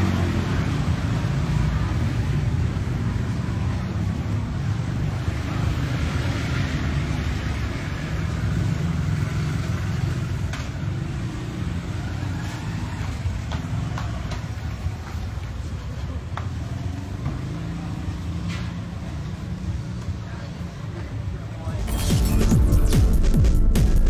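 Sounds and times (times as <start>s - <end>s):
street traffic rumble: 0.0s - 21.8s.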